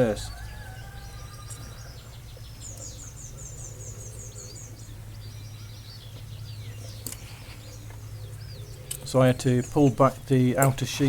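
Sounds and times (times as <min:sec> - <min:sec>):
songbird chirping: 0:00.0 - 0:11.0
steady low hum: 0:00.0 - 0:11.0.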